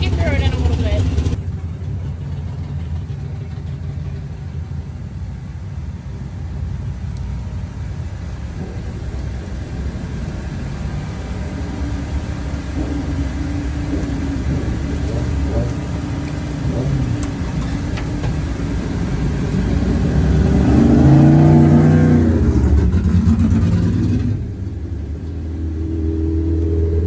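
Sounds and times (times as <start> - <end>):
race car engine rumbling: 0.0 - 27.0.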